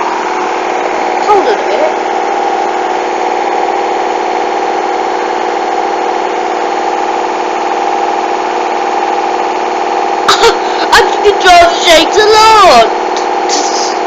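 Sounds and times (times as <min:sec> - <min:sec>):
washing machine spin cycle hum: 0:00.0 - 0:14.0.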